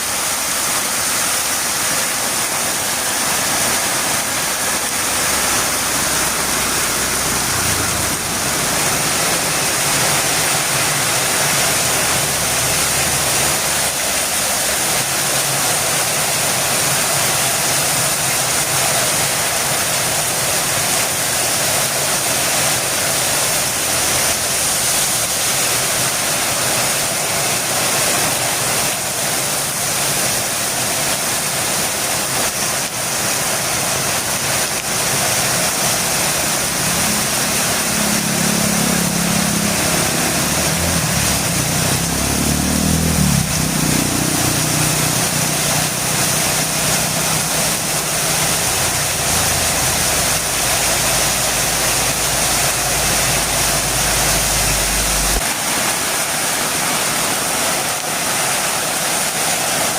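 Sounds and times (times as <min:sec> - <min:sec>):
heavy rain downpour: 0:00.0 - 0:59.9.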